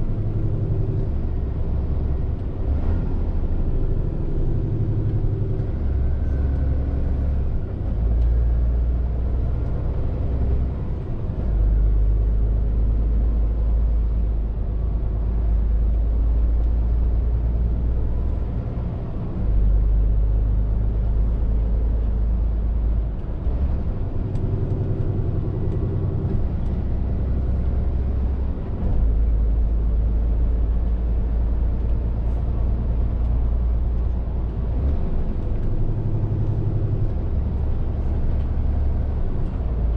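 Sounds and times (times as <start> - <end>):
lorry diesel engine drone: 0.0 - 39.9
tyre and road noise: 0.0 - 39.9.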